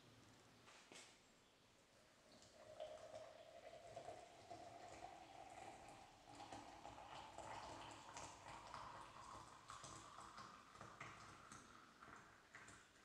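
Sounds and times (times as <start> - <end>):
water trickling into a glass: 2.0 - 13.0.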